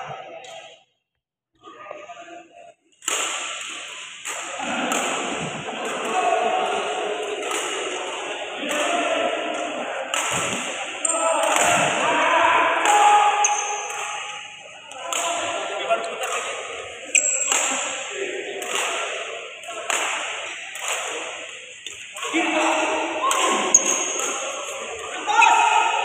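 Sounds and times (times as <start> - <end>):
rackets hitting shuttlecocks: 3.0 - 12.0, 12.8 - 26.0
voices calling: 4.3 - 26.0.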